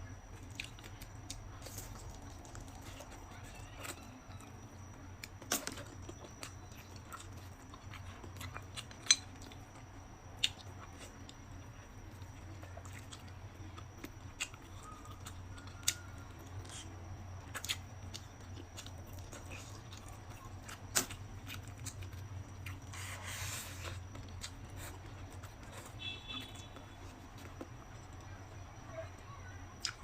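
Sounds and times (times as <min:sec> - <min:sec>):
person chewing food: 0:00.0 - 0:28.6, 0:29.8 - 0:30.0
steady low hum: 0:00.0 - 0:30.0.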